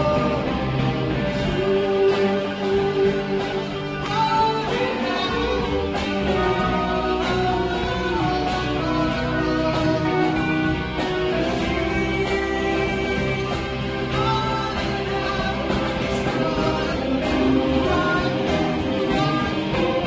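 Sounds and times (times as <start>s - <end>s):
live guitar music: 0.0s - 20.0s.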